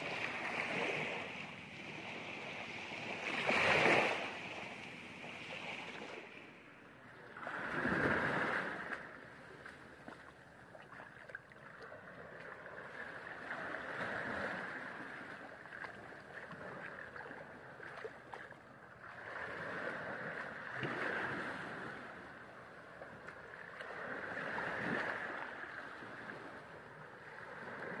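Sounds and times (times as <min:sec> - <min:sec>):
small waves washing on beach: 0:00.0 - 0:28.0.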